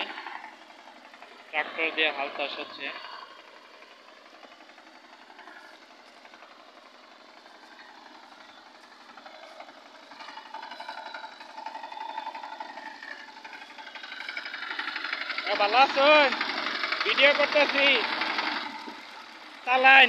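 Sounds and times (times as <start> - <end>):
power tiller engine knocking: 0.0 - 20.0.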